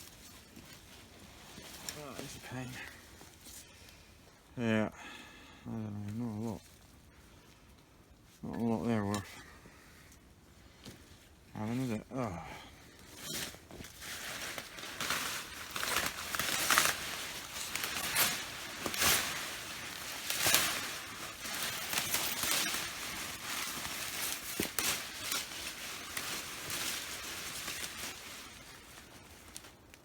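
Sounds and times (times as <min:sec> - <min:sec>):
leaves rustling and crackling: 0:00.0 - 0:04.6, 0:05.5 - 0:30.0.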